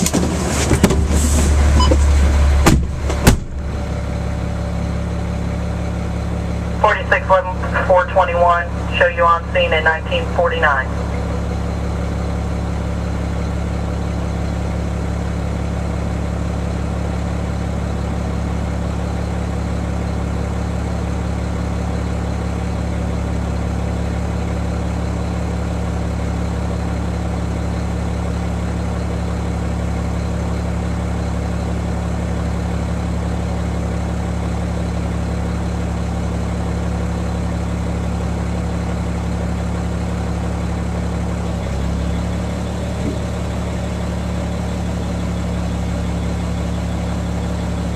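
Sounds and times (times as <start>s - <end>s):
fire engine idling: 0.0s - 47.9s.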